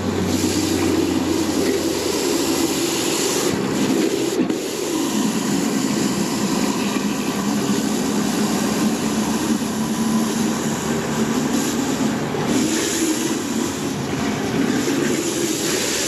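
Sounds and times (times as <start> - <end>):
pressure washer running: 0.0 - 16.0.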